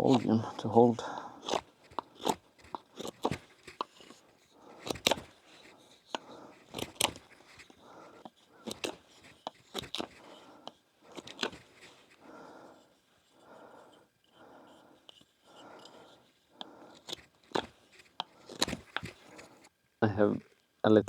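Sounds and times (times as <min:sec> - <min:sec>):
knife whittling wood: 0:00.0 - 0:19.7.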